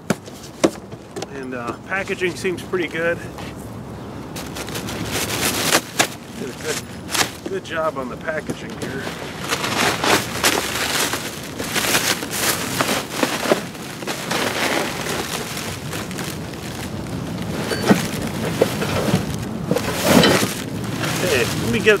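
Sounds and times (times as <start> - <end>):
packaging rustling and crackling: 4.3 - 22.0.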